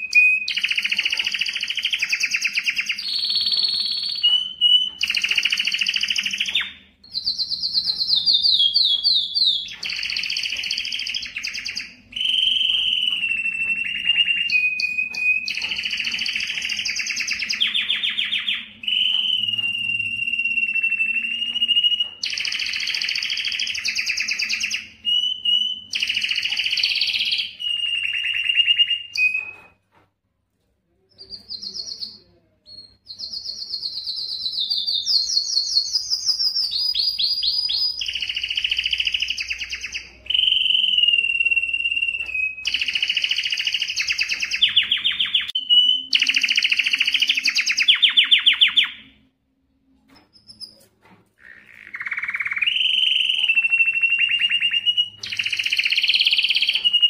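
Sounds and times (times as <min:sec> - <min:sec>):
canary singing trills: 0:00.0 - 0:29.8, 0:31.1 - 0:49.2, 0:50.1 - 0:57.0.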